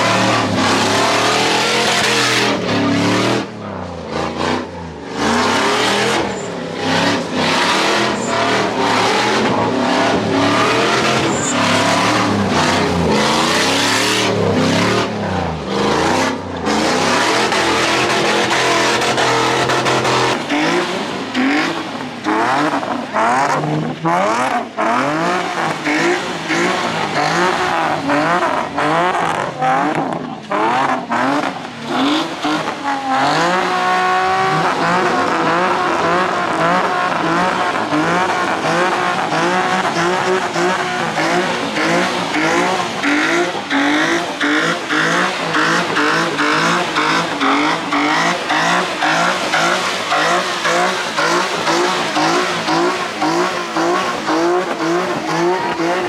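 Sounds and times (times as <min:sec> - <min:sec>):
car engines revving: 0:00.0 - 0:56.0
tire squeal: 0:00.0 - 0:56.0.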